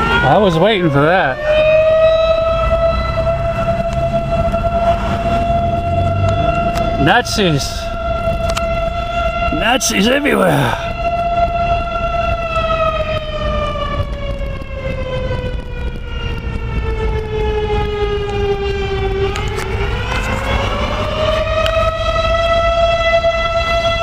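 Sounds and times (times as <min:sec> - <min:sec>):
warning siren wailing: 0:00.0 - 0:24.0.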